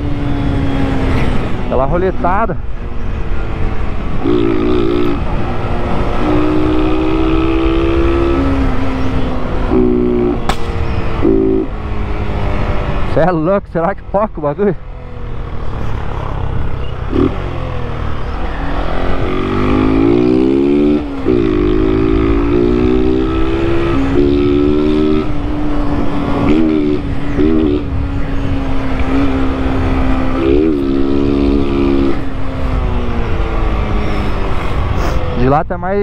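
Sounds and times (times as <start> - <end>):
motorcycle engine accelerating: 0.0 - 13.4, 14.8 - 35.4.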